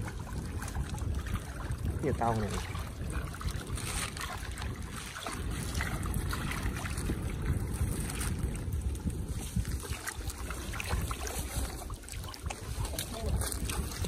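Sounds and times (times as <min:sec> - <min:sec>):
water lapping and splashing: 0:00.0 - 0:14.0
wind rumbling on microphone: 0:00.0 - 0:14.0.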